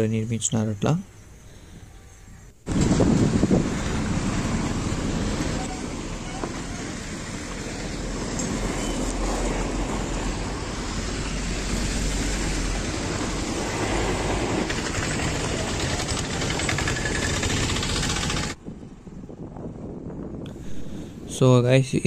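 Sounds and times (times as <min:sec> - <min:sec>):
road traffic rumble: 0:00.0 - 0:21.4.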